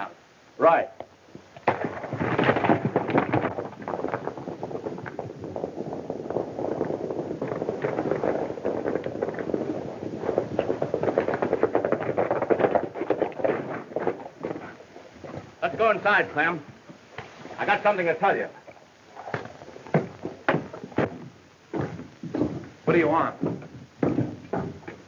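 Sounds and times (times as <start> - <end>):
galloping horse hooves: 1.0 - 25.0.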